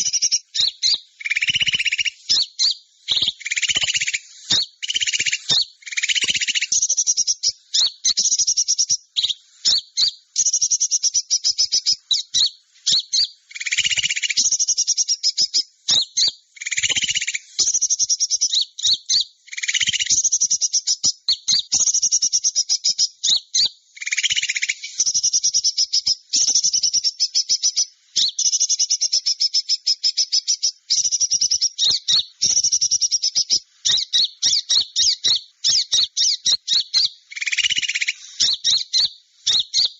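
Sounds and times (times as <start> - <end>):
buzzy bird calls: 0.0 - 39.9
songbird chattering trills: 0.0 - 39.9.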